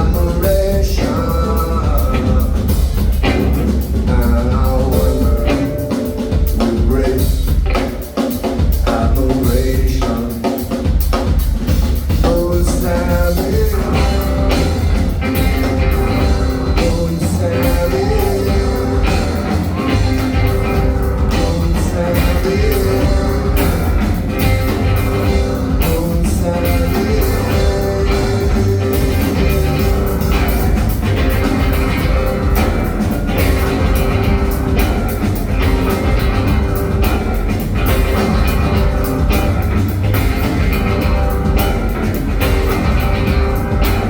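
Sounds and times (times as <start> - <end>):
drum kit steady beat: 0.0 - 44.0
live rock band playing: 0.0 - 44.0.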